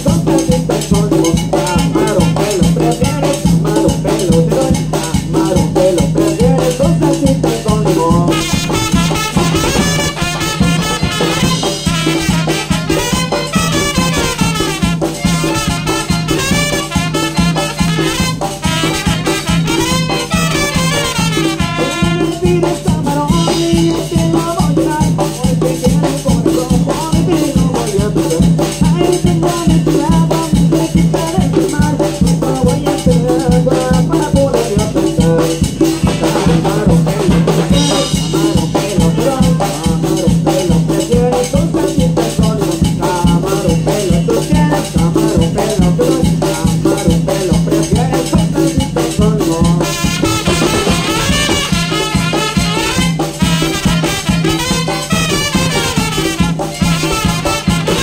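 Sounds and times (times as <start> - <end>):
brass band playing dance tune: 0.0 - 58.0
fast drum beat: 0.0 - 58.0.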